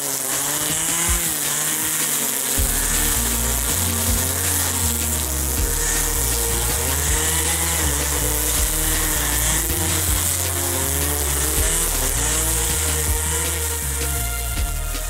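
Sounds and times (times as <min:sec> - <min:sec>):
background music with bass line: 0:00.0 - 0:15.0
electric string trimmer cutting grass: 0:00.0 - 0:15.0.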